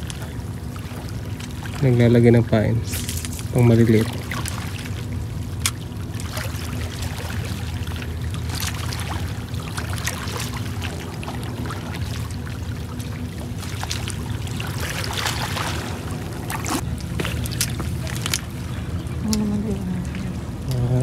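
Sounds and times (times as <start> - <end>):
boat engine drone: 0.0 - 21.0
waves lapping against rocks: 0.0 - 21.0.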